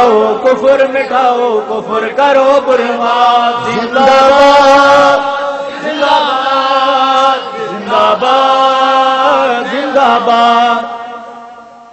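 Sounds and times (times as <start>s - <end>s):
man chanting: 0.0s - 11.6s.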